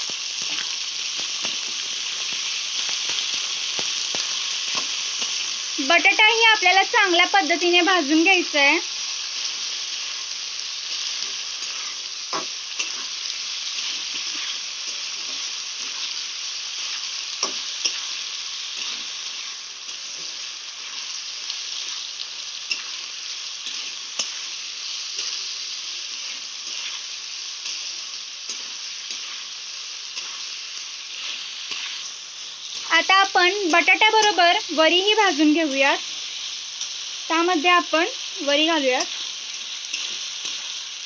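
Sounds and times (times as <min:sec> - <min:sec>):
potatoes sizzling in hot oil: 0:00.0 - 0:41.0.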